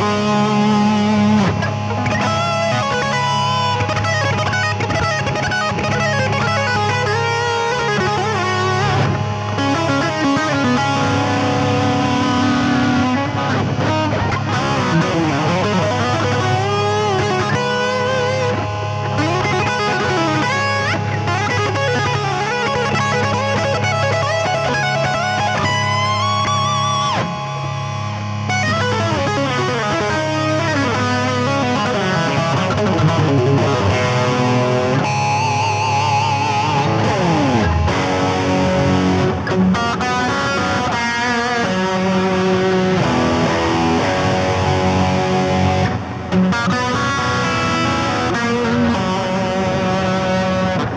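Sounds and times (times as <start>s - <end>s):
electric guitar lead with bends: 0.0s - 50.9s
held guitar chord drone: 0.0s - 50.9s.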